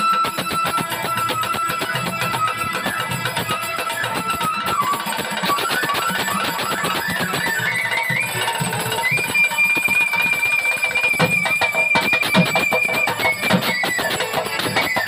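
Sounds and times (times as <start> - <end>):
quick rhythmic beat: 0.0 - 15.0
violin folk melody: 0.0 - 15.0.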